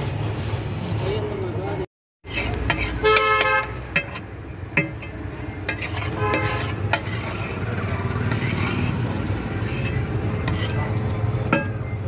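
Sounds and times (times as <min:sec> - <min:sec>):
metal spatula scraping on griddle: 0:02.2 - 0:12.0.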